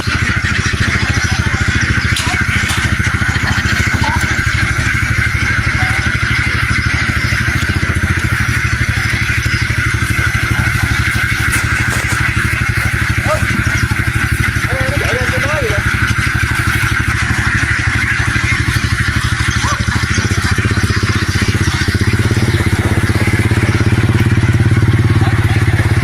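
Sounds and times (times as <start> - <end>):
engine running under load: 0.0 - 26.0.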